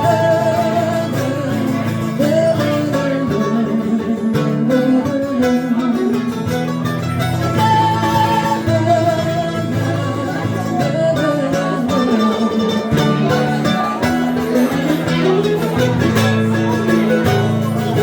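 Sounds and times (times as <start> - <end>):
acoustic guitar accompaniment: 0.0 - 18.0.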